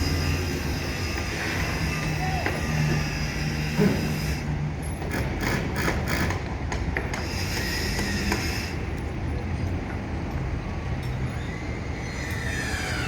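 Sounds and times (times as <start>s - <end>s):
heavy construction machinery din: 0.0s - 13.0s.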